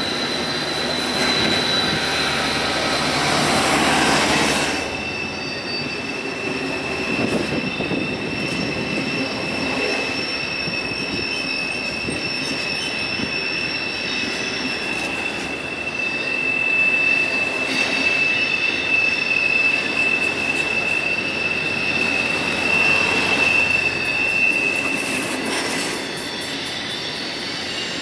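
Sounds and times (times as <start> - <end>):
freight train rumbling past: 0.0 - 28.0
train wheels squealing: 0.0 - 28.0.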